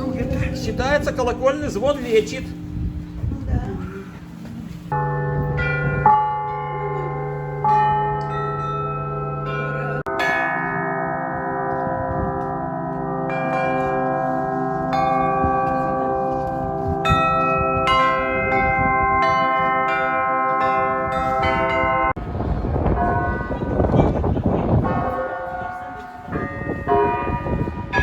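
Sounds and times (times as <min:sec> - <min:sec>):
church bells ringing: 0:00.0 - 0:02.9, 0:04.9 - 0:28.0.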